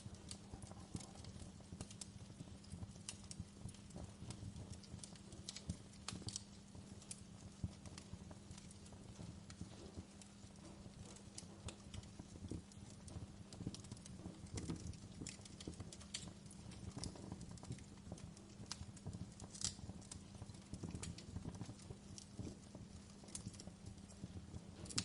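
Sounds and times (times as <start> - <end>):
low rumble of fire: 0.0 - 25.0
wood fire crackling and popping: 0.0 - 25.0.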